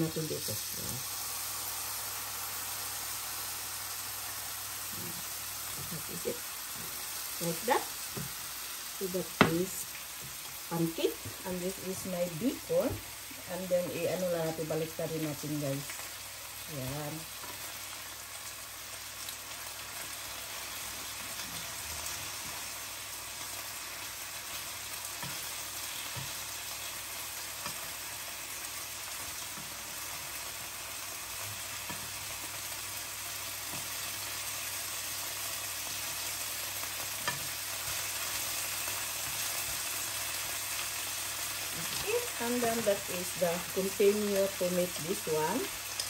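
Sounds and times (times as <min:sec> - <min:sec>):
bacon sizzling in a pan: 0:00.0 - 0:46.0.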